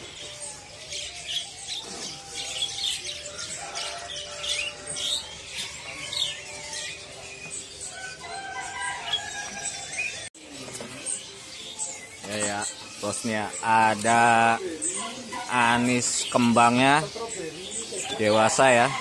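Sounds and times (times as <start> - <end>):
caged songbirds chirping: 0.0 - 19.0.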